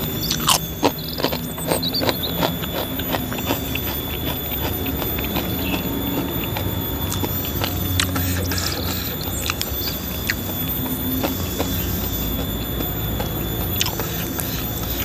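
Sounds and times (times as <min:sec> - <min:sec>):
crunching of chip being chewed: 0:00.0 - 0:15.0.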